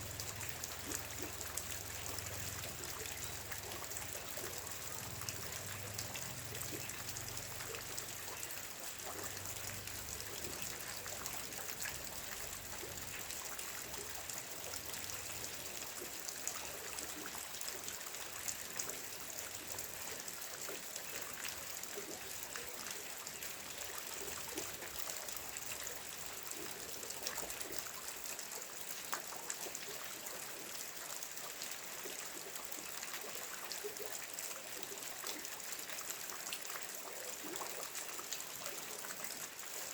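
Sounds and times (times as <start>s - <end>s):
steady rain: 0.0s - 39.9s
trickling runoff: 0.0s - 39.9s.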